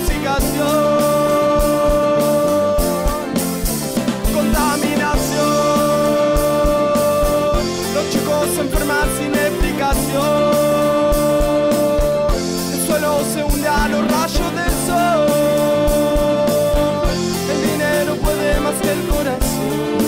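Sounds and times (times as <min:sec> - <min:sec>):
rock band playing: 0:00.0 - 0:20.0
sliding lead melody: 0:00.0 - 0:20.0.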